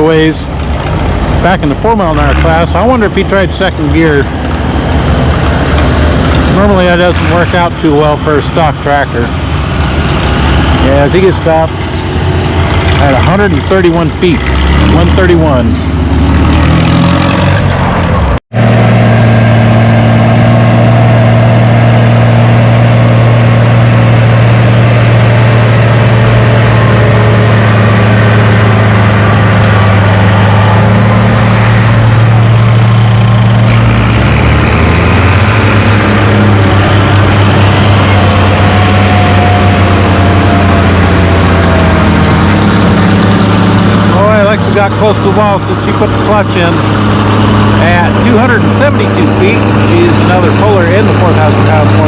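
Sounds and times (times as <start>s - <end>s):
tractor engine running under load: 0.0s - 52.0s.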